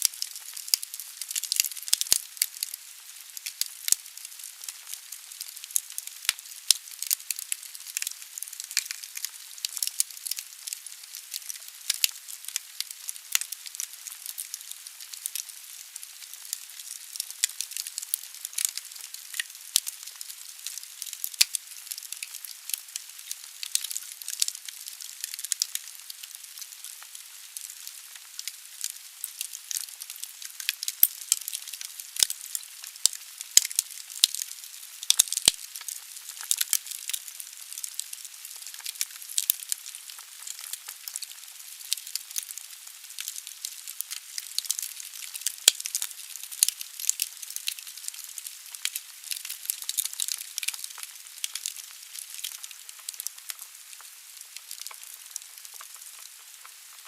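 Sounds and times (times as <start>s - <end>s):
logs crackling and popping: 0.0s - 57.0s.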